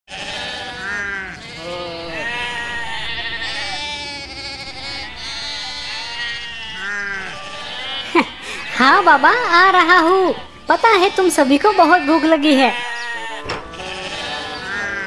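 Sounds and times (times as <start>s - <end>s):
goats bleating: 0.1s - 15.0s.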